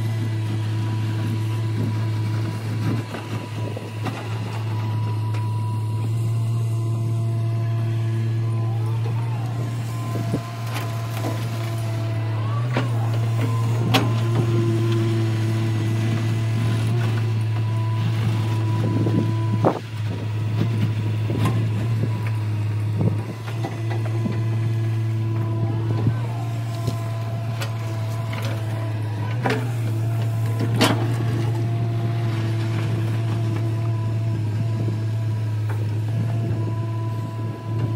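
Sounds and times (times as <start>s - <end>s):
diesel engine running: 0.0s - 37.9s
hydraulic whine: 0.0s - 37.9s.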